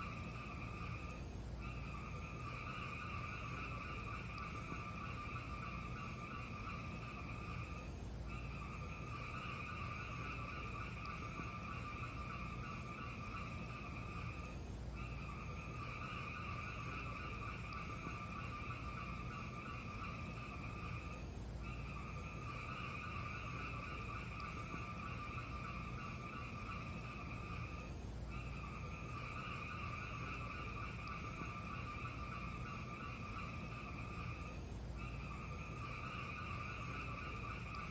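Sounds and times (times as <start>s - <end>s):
faint fire crackles: 0.0s - 37.9s
fire rumble and hiss: 0.0s - 37.9s.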